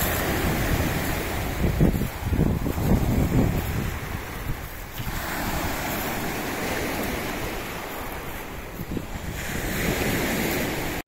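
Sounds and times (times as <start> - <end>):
waves washing over pebbles: 0.0 - 11.0
wind rumble on microphone: 0.0 - 11.0.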